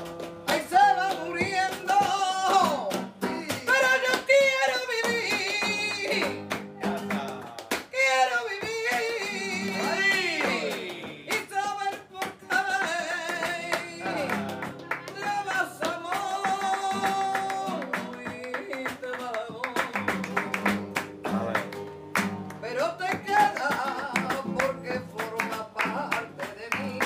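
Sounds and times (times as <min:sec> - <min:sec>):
rhythmic handclaps: 0:00.0 - 0:27.0
woman singing flamenco: 0:00.0 - 0:27.0.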